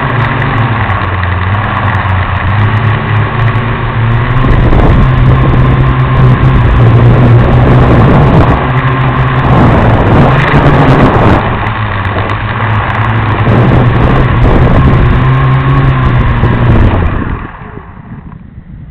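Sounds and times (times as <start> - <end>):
quadcopter propellers buzzing: 0.0 - 18.9.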